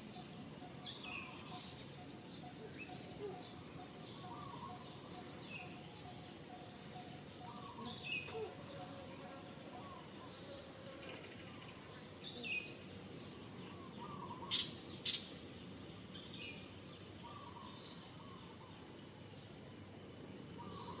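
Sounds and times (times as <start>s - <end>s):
steady background hiss: 0.0s - 21.0s
birds chirping: 0.1s - 9.0s, 9.8s - 19.4s, 20.6s - 21.0s.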